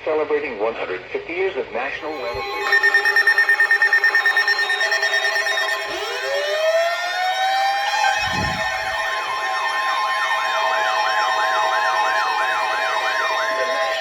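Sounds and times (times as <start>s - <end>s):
steady tones: 2.0s - 14.0s
siren wailing and yelping: 2.1s - 14.0s.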